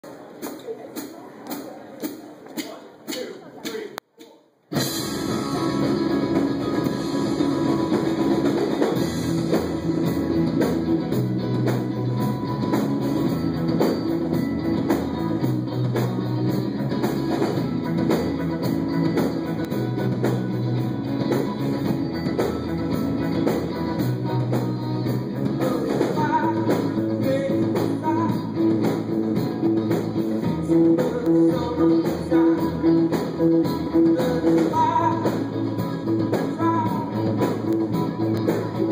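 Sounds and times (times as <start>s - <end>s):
live rock band playing: 4.7s - 38.9s.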